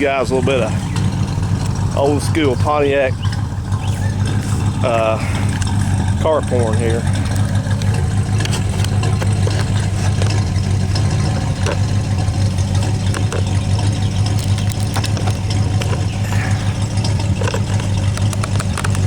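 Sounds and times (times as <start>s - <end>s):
car engine idling and misfiring: 0.0s - 19.0s.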